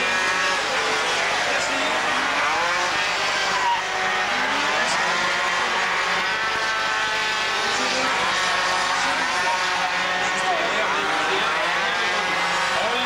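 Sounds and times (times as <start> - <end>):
racing scooters buzzing past: 0.0 - 13.0.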